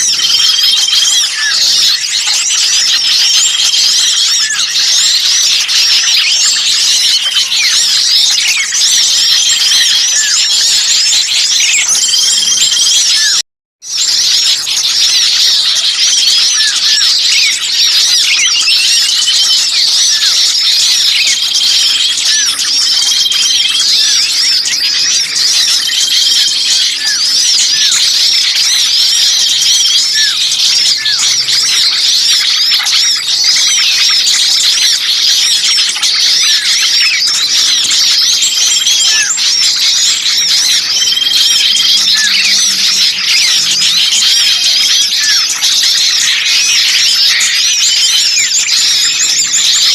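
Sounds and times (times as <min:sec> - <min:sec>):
small songbirds chattering: 0:00.0 - 0:49.9.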